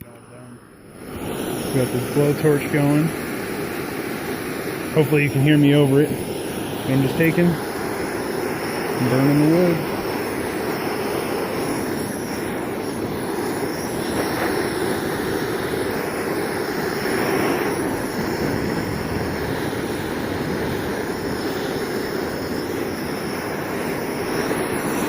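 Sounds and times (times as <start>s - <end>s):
blowtorch flame hissing: 0.0s - 25.0s.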